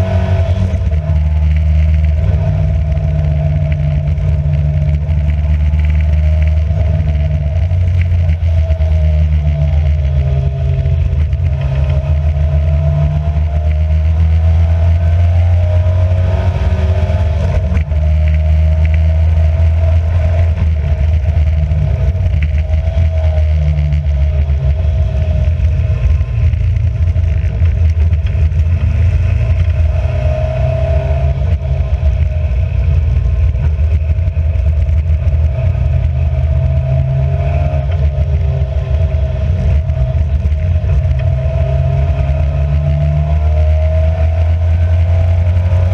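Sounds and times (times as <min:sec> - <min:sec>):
racing car engine under load: 0:00.0 - 0:45.9.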